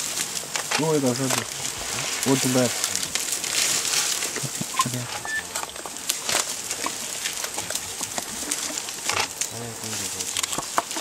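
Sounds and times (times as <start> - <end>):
twigs cracking and branches rustling: 0.0 - 11.0.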